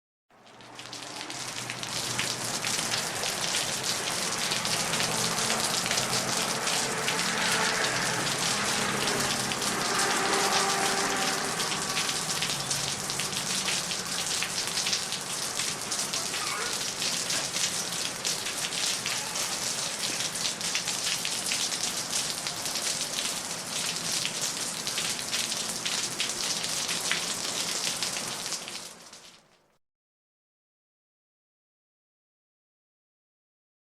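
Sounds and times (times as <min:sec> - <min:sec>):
rain on hard surfaces: 0:00.3 - 0:29.8.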